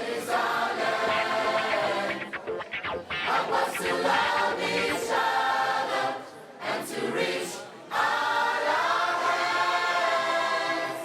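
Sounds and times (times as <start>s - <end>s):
choir singing gospel: 0.0s - 2.6s, 3.2s - 11.0s.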